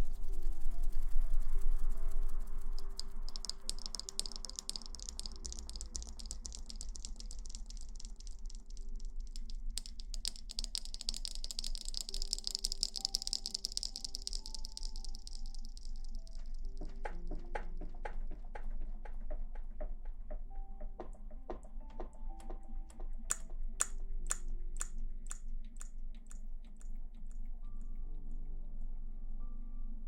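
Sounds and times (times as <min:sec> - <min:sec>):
soft background music: 0:00.0 - 0:30.0.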